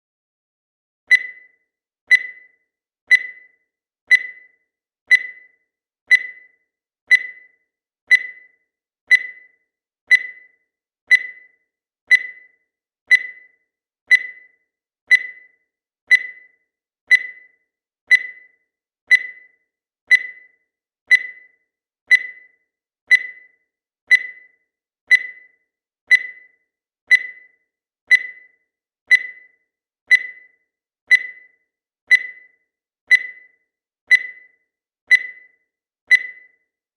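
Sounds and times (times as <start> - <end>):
digital timer beeping: 1.1 - 36.8.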